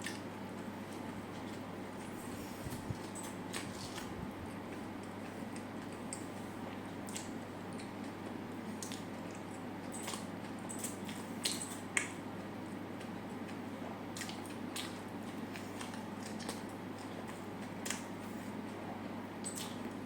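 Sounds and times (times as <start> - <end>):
person chewing: 0.0 - 19.9.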